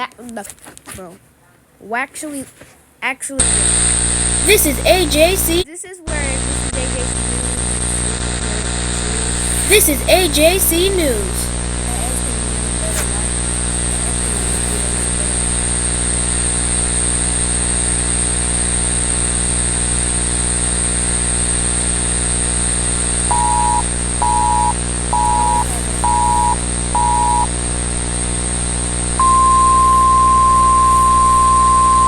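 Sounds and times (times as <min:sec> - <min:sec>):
high whine: 0:03.4 - 0:32.0
static hiss: 0:03.4 - 0:32.0
low hum: 0:05.1 - 0:32.0.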